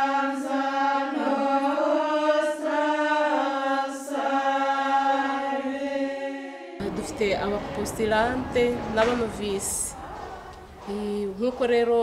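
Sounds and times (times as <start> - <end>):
women chanting in unison: 0.0 - 12.0.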